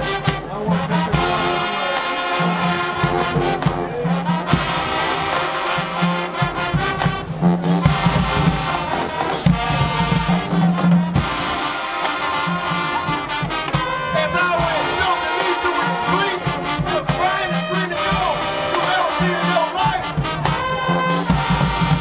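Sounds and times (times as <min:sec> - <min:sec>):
low brass held notes: 0:00.0 - 0:22.0
marching band playing brass: 0:00.0 - 0:22.0.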